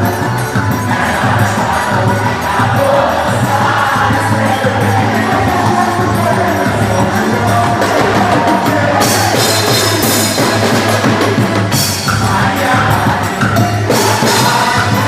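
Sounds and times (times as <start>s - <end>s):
music with drums and percussion: 0.0s - 15.0s.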